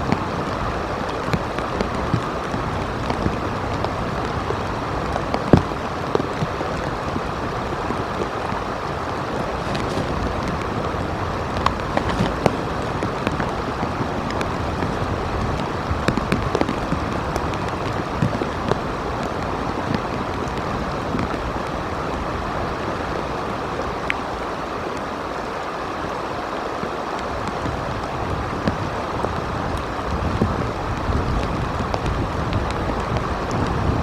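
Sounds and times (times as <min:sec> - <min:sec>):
steady rain: 0:00.0 - 0:34.0
wind: 0:00.0 - 0:34.0.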